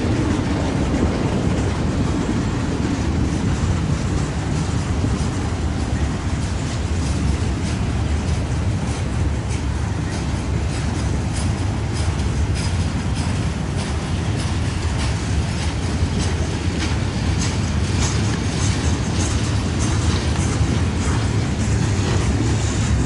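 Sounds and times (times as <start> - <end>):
clicks of rolling freight cars: 0.0 - 23.0
train wheels rumbling on rail: 0.0 - 23.0.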